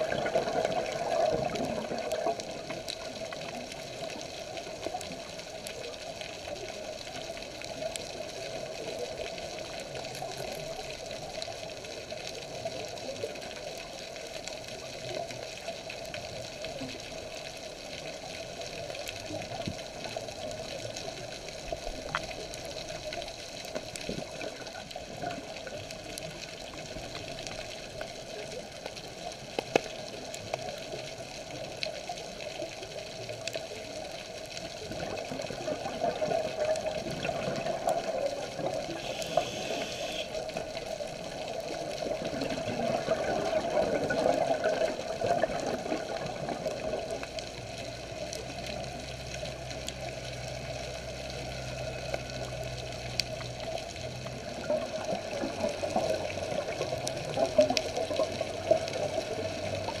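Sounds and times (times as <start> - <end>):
muffled underwater water noise: 0.0 - 60.0.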